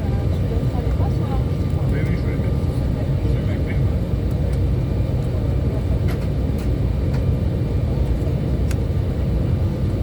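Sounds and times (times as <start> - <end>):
turbofan engines rumbling: 0.0 - 10.0.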